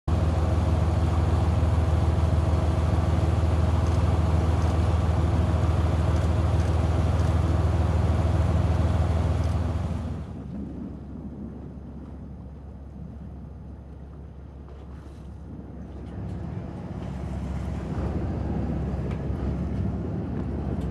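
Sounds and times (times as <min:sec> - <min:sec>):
boat engine humming: 0:00.1 - 0:20.9.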